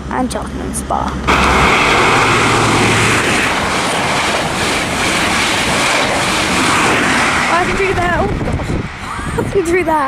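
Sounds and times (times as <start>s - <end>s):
diesel train passing at speed: 0.9s - 10.0s.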